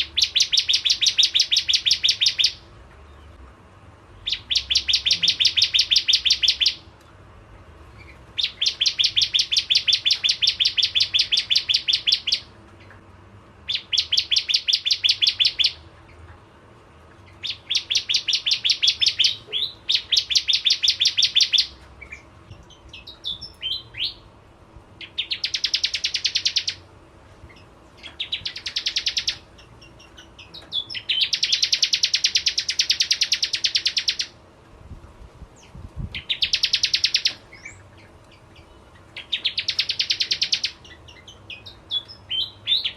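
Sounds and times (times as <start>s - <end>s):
bird trilling: 0.0s - 2.7s, 4.2s - 6.9s, 8.0s - 12.5s, 13.7s - 15.9s, 17.3s - 24.3s, 25.0s - 26.9s, 27.5s - 34.4s, 36.1s - 42.9s
bird chirps: 0.0s - 3.4s, 4.2s - 6.9s, 7.9s - 13.0s, 13.7s - 16.2s, 17.2s - 24.3s, 25.0s - 26.9s, 27.5s - 34.4s, 35.6s - 42.9s.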